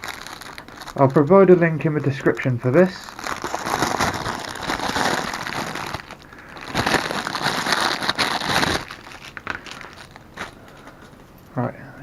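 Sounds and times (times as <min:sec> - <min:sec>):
packaging crinkling: 0:00.0 - 0:11.5.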